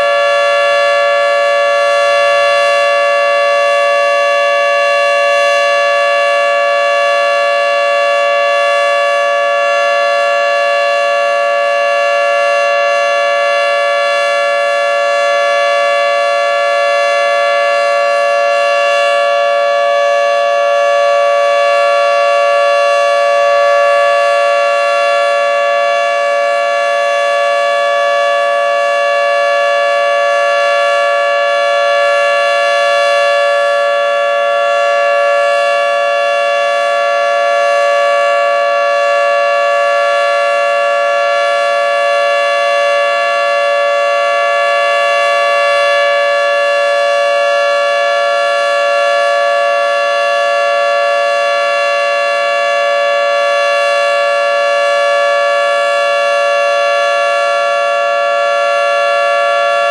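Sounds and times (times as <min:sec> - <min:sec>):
warning siren chord: 0:00.0 - 0:59.9.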